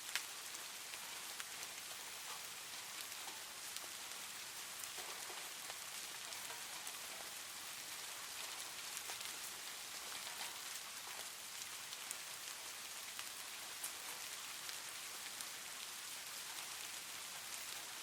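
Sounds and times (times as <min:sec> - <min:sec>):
rain hissing: 0:00.0 - 0:18.0
raindrops ticking on a surface: 0:00.0 - 0:18.0.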